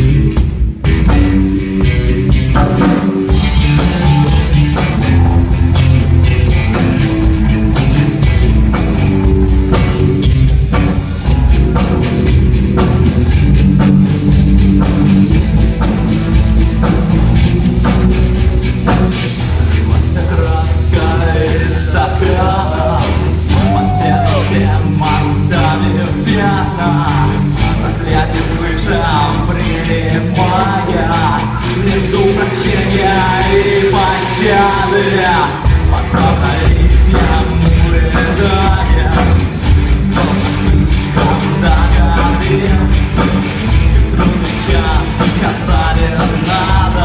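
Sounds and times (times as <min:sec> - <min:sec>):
drum kit: 0:00.0 - 0:47.0
electric guitar: 0:00.0 - 0:47.0
rock band playing: 0:00.0 - 0:47.0.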